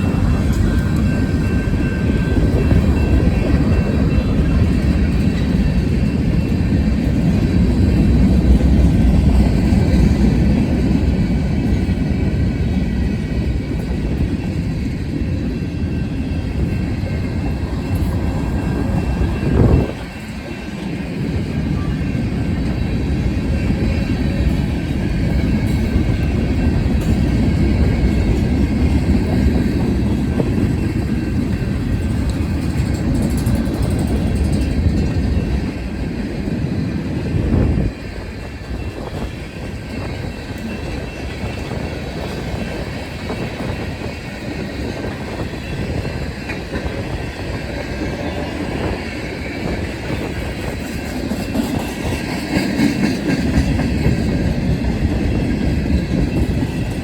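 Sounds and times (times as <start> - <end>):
freight train rumbling on rails: 0.0 - 57.0.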